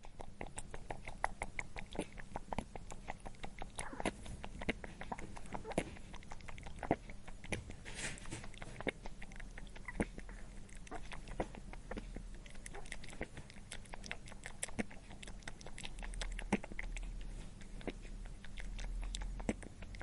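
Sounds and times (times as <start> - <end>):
rabbit chewing carrot: 0.0 - 20.0.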